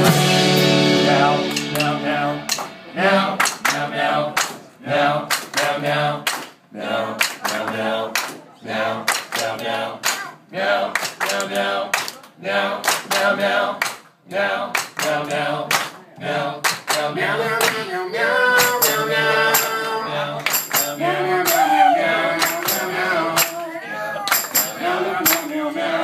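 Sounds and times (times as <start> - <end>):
people singing: 0.0 - 26.0
rhythmic hand claps: 1.5 - 6.6, 7.2 - 10.3, 10.9 - 17.9, 18.6 - 23.7, 24.3 - 25.7.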